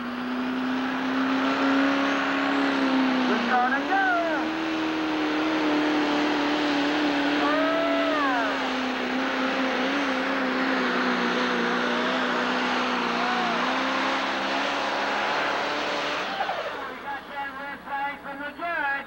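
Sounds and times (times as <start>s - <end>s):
diesel tractor engine droning: 0.0s - 19.0s.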